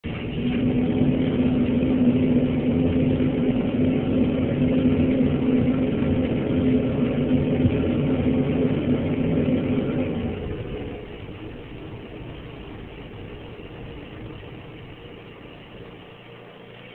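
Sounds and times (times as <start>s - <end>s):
burner flame rushing: 0.0s - 16.9s
low hum: 0.0s - 16.9s.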